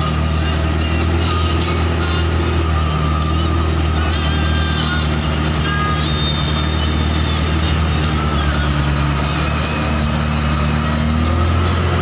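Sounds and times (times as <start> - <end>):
truck engine pulling uphill: 0.0 - 12.0.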